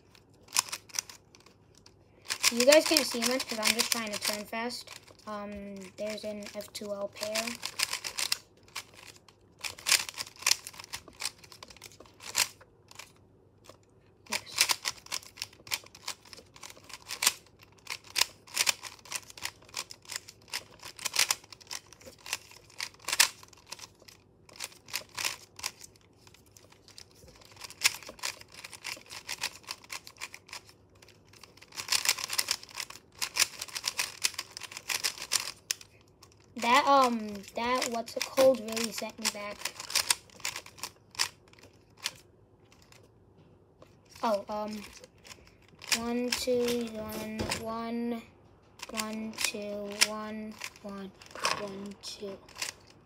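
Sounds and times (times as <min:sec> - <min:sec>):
puzzle cube clicking: 0:00.1 - 0:05.2, 0:05.8 - 0:42.2, 0:44.1 - 0:47.8, 0:48.8 - 0:53.0.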